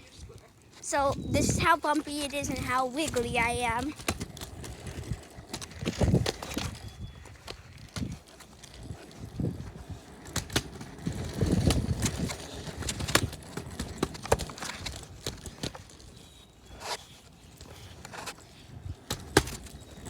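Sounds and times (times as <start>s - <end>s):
scooter wheels rolling on pavement: 0.0s - 20.0s
wheels clacking over cracks: 0.0s - 20.0s.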